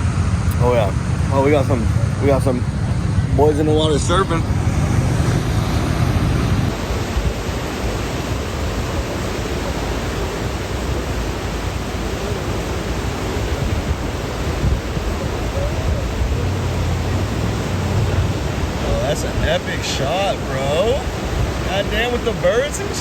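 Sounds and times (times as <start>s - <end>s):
ocean surf washing in: 0.0s - 23.0s
wind on microphone: 0.0s - 23.0s.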